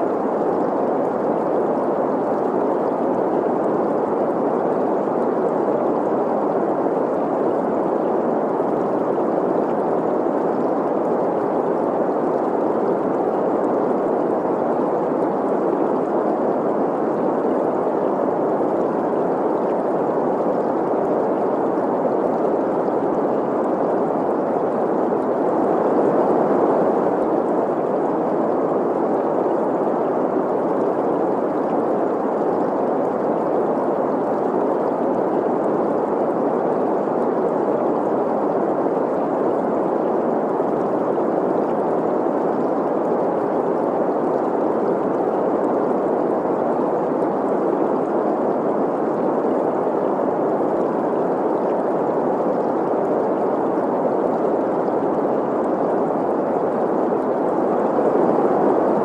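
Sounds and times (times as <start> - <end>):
smooth noise hiss: 0.0 - 59.0.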